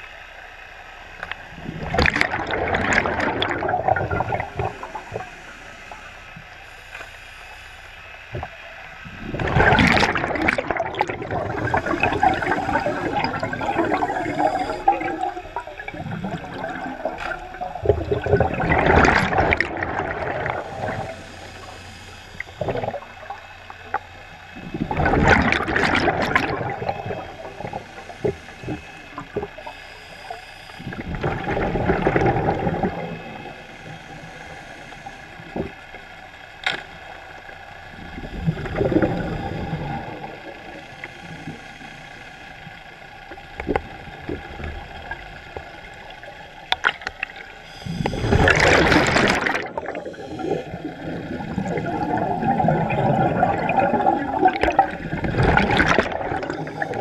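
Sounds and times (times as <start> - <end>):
underwater bubbles gurgling: 0.0 - 57.0.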